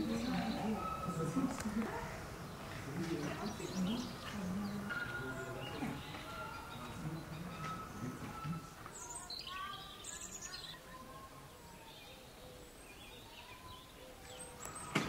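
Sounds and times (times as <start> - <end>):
high chirping and twittering calls: 0.0 - 15.0.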